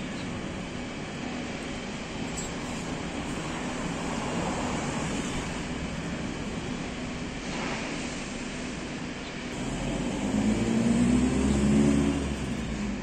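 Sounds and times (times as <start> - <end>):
engine rumbling: 0.0 - 13.0
steady background noise: 0.0 - 13.0.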